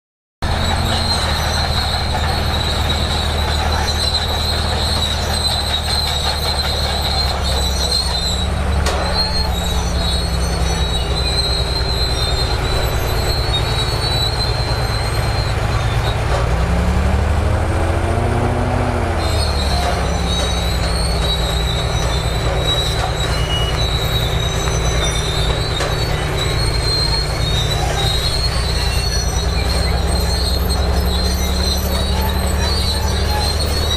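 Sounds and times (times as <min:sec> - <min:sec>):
bulldozer diesel engine: 0:00.4 - 0:33.9
steel tracks squealing: 0:00.4 - 0:33.9.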